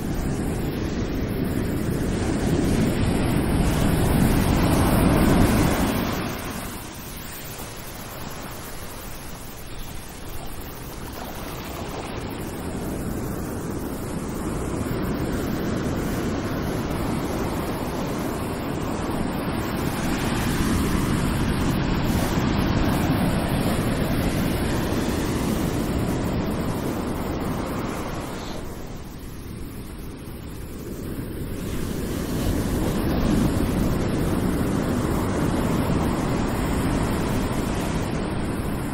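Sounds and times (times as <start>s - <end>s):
ocean waves rushing surf: 0.0s - 38.9s.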